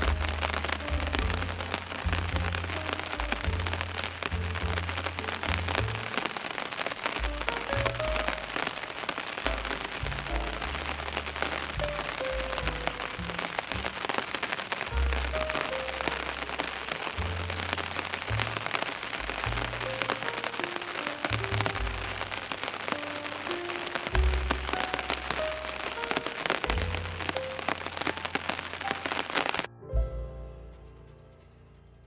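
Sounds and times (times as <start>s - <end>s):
rain falling: 0.0s - 29.7s
soft slow music: 0.0s - 32.0s.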